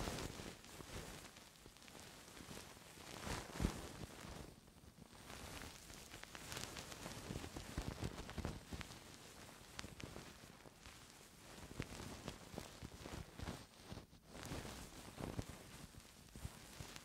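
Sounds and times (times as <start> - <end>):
soft scratching and rustling: 0.0 - 17.0.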